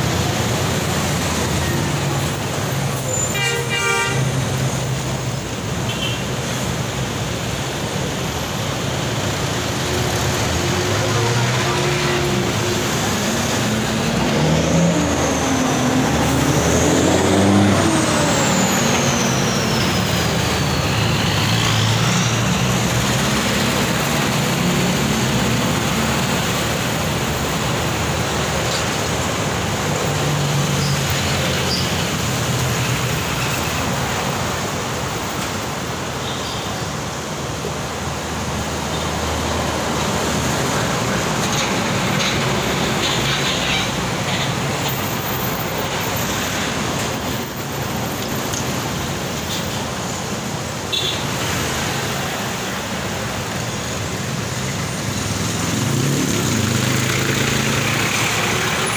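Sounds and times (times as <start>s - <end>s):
street traffic passing: 0.0s - 58.9s
truck engines droning: 0.0s - 58.9s.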